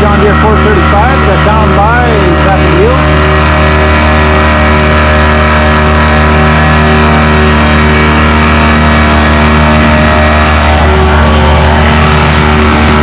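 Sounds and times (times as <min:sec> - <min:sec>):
diesel engine at high revs: 0:00.0 - 0:13.0.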